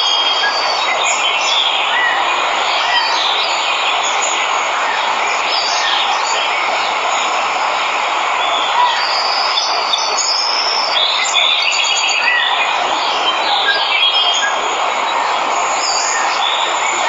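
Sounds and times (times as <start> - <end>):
birds chirping: 0.0 - 17.0
waterfall roaring: 0.0 - 17.0.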